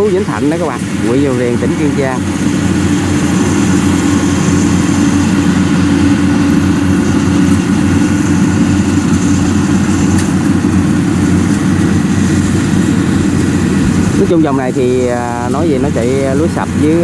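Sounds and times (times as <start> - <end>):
combine harvester engine running: 0.0 - 17.0.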